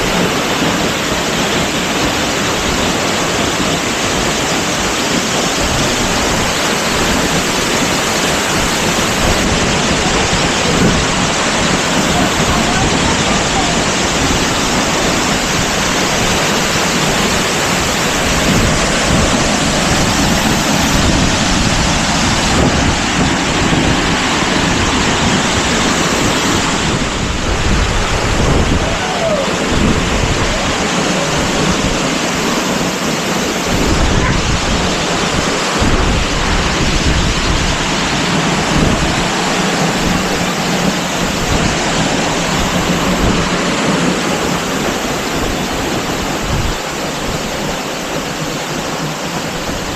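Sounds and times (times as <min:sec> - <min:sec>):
waterfall rushing: 0:00.0 - 0:49.9
wind gusting on microphone: 0:00.0 - 0:49.9.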